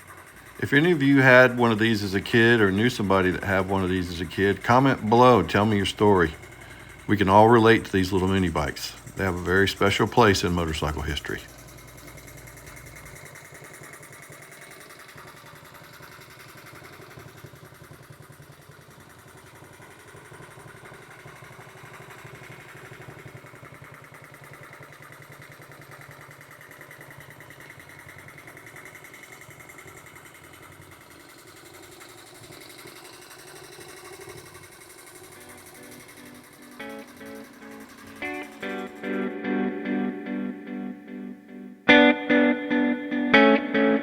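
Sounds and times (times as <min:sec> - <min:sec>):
small motorbike engine idling: 0:00.0 - 0:44.0.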